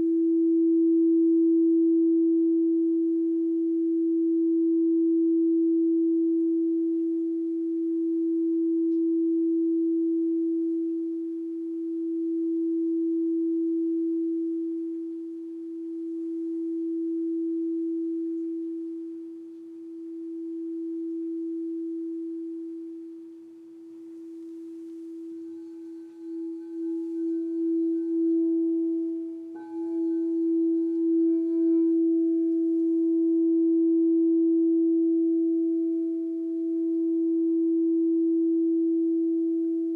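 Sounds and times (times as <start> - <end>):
crystal singing bowl humming: 0.0 - 39.9.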